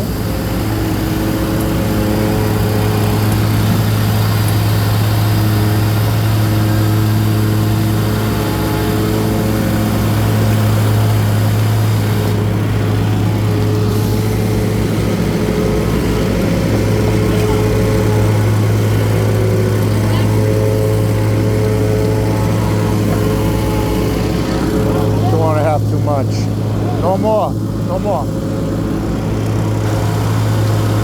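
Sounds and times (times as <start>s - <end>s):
machine engine humming: 0.0s - 31.0s.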